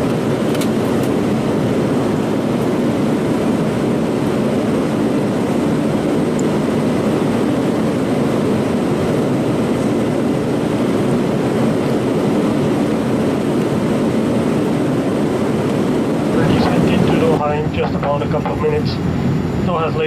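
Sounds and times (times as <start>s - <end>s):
airliner cabin engine rush: 0.0s - 20.0s.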